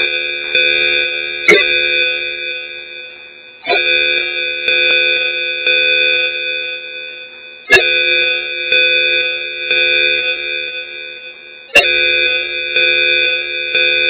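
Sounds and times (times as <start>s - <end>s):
electronic ringing tone: 0.0s - 14.0s.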